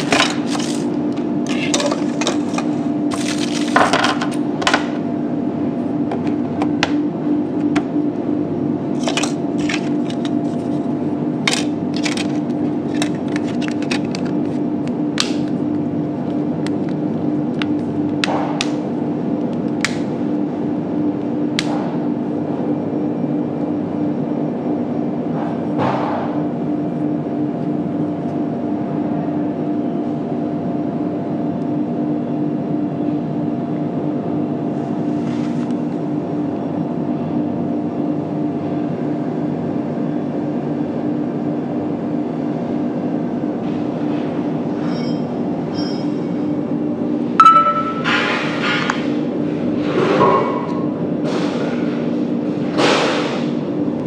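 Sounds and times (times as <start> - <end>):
steady loud hum: 0.0 - 54.0.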